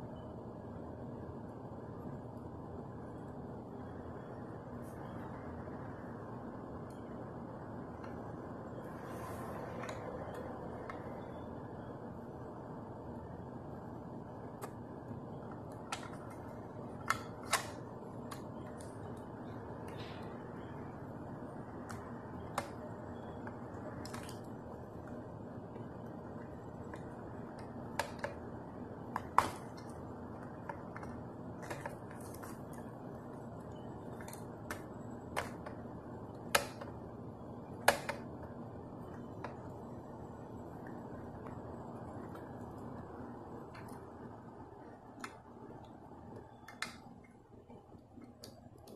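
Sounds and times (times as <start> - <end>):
steady low hiss: 0.0 - 48.9.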